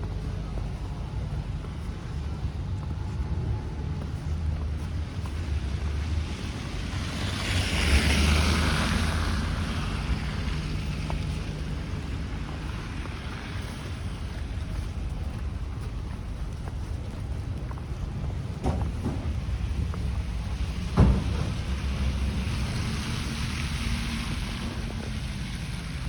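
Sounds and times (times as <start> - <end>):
blizzard wind rumbling on microphone: 0.0 - 26.0.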